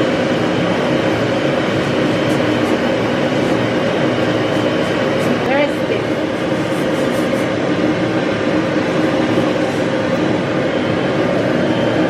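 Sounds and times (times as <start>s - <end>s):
grooming dryer blowing air: 0.0s - 12.0s.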